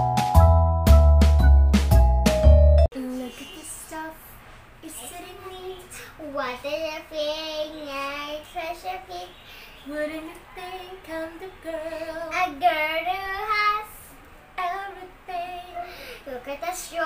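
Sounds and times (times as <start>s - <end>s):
girl singing unaccompanied: 3.0s - 17.0s.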